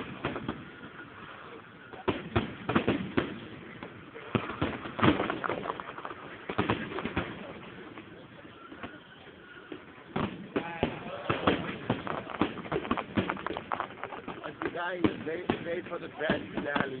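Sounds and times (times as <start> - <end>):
crowd chatter: 0.0 - 17.0
fireworks bangs: 0.0 - 17.0.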